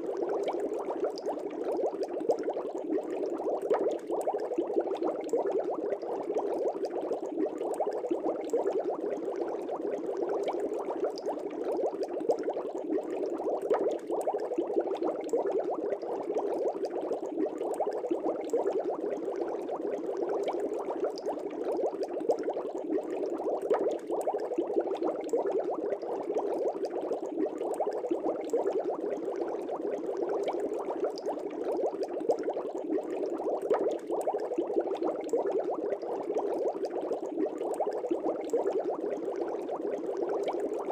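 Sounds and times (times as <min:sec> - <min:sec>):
aquarium bubbles popping: 0:00.0 - 0:40.9.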